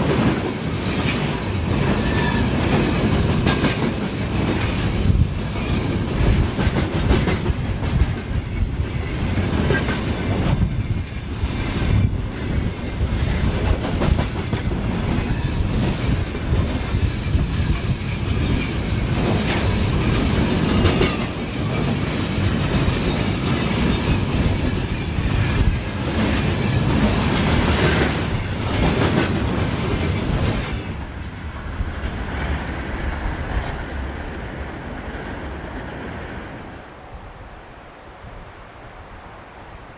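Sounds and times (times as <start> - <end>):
wheels clattering over rail joints: 0.0 - 32.9
freight train wagons rolling past: 0.0 - 39.9.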